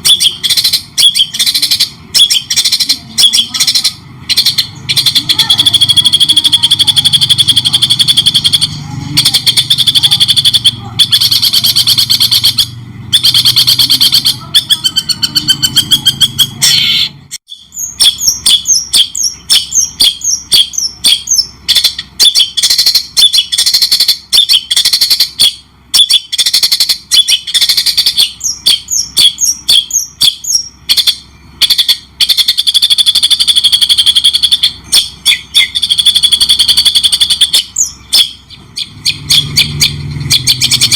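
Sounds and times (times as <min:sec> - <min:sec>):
sharp bird chirps: 0:00.0 - 0:40.9
songbird chattering trill: 0:00.0 - 0:40.9.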